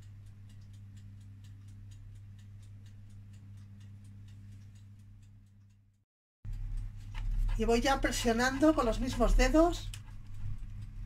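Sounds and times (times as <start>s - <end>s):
low electrical hum: 0.0s - 11.0s
rapid regular ticking: 0.0s - 11.0s.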